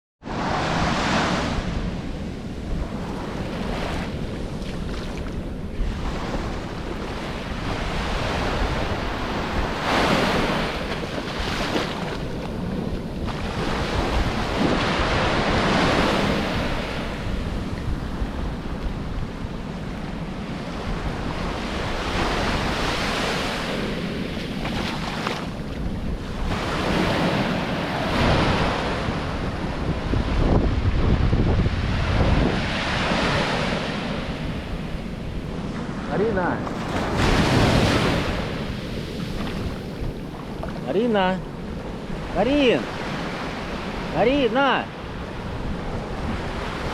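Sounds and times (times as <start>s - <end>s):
waves breaking on beach: 0.2s - 46.9s
wind buffeting microphone: 0.3s - 44.2s, 45.0s - 46.9s.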